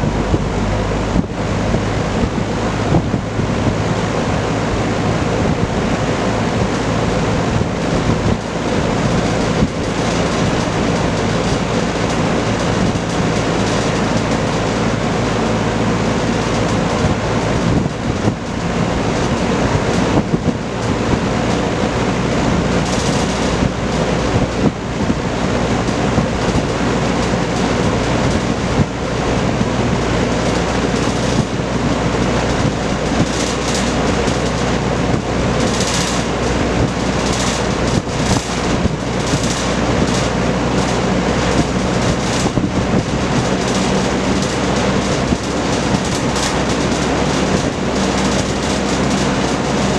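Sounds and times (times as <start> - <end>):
fan air rush: 0.0 - 49.9
fan motor hum: 0.0 - 49.9.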